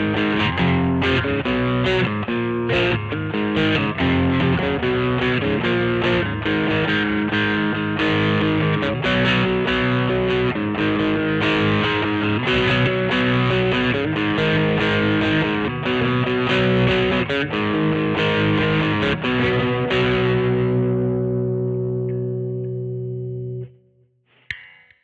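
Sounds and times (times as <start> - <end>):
distorted electric guitar chords: 0.0 - 24.8.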